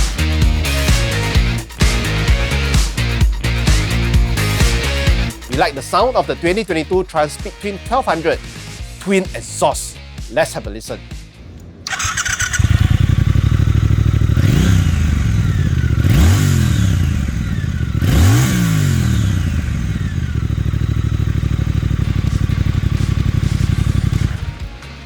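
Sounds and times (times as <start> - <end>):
motorcycle engine idling and revving: 0.0 - 9.0, 11.1 - 25.0.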